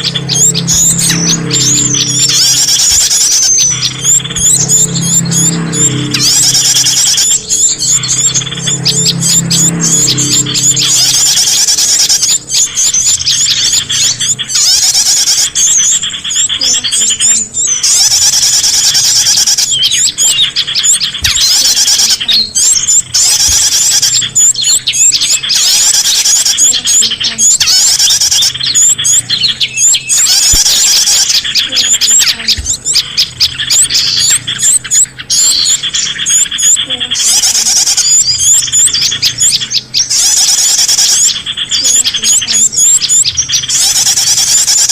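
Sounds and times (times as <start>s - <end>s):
small songbirds chirping: 0.0s - 44.9s.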